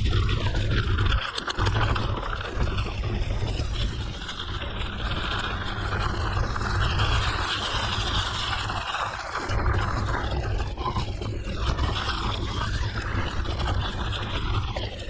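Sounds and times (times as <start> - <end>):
wind on microphone: 0.0 - 15.0
bike tyres rolling on gravel: 0.2 - 15.0.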